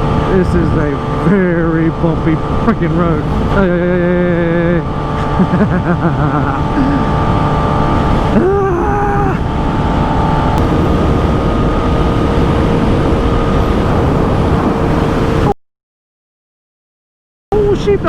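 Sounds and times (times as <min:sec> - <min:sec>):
motorcycle engine running: 0:00.0 - 0:15.5
rushing wind: 0:00.0 - 0:15.5.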